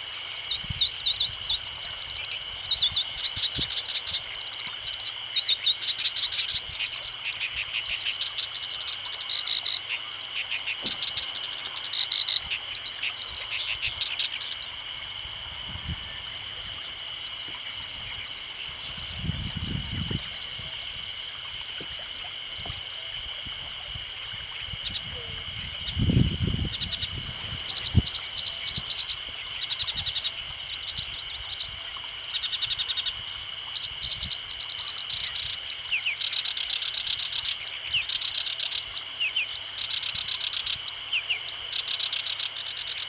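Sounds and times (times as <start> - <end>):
warbler singing chattering song: 0.0 - 22.7, 23.3 - 43.0.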